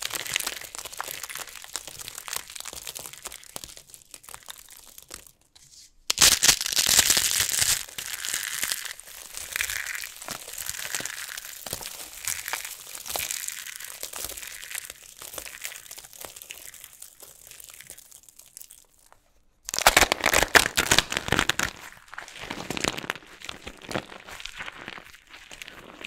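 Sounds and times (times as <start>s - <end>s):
dried soap crunching: 0.0s - 26.0s.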